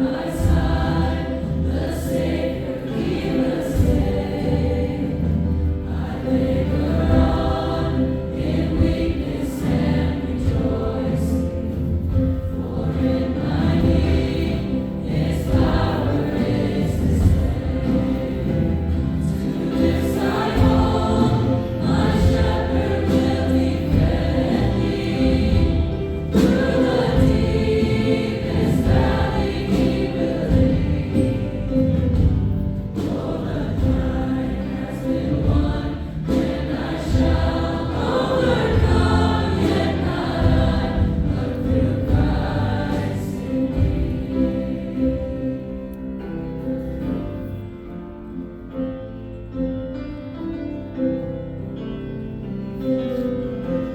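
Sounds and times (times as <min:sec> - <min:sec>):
choir singing gospel song: 0:00.0 - 0:47.6
instrumental accompaniment: 0:00.0 - 0:53.9.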